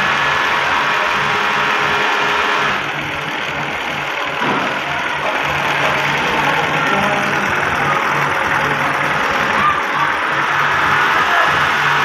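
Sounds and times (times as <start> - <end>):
sewing machine stitching fabric: 0.0 - 12.0.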